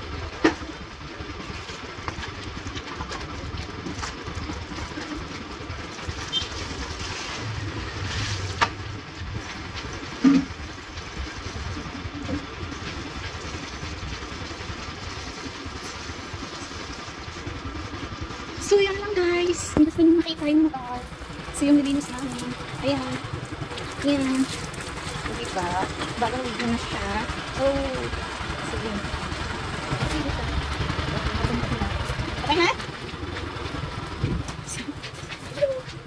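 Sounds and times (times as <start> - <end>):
hose water splashing on concrete: 1.4 - 30.7.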